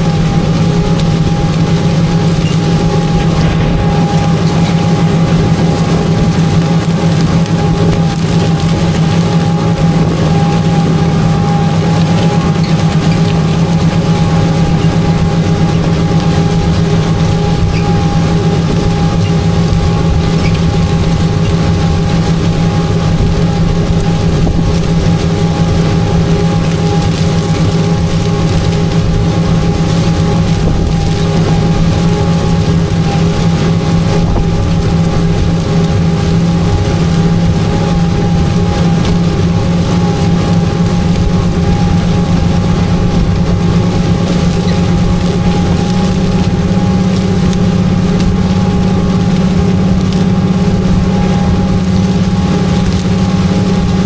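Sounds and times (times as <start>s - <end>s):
tractor engine droning: 0.0s - 54.0s.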